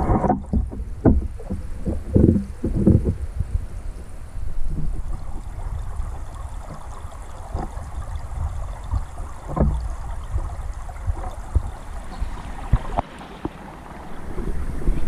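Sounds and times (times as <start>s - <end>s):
ticks and knocks underwater: 0.0s - 4.1s, 4.7s - 15.0s
underwater stream rumble: 0.0s - 15.0s
water gurgling: 0.0s - 15.0s.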